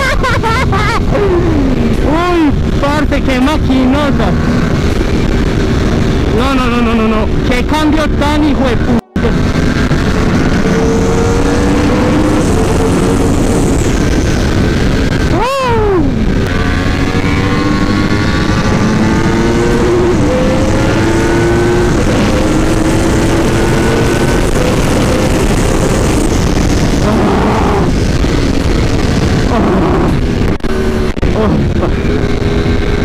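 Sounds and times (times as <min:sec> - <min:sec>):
motorcycle engine revving hard: 0:00.0 - 0:33.0
wind rush: 0:00.0 - 0:33.0.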